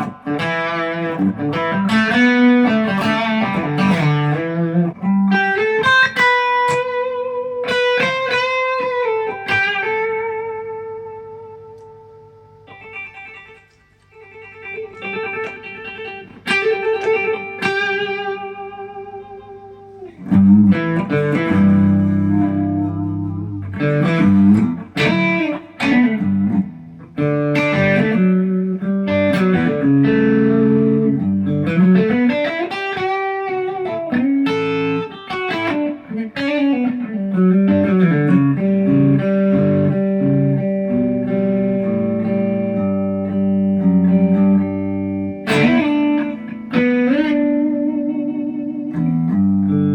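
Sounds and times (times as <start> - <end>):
electric guitar through amplifier: 0.0 - 49.9.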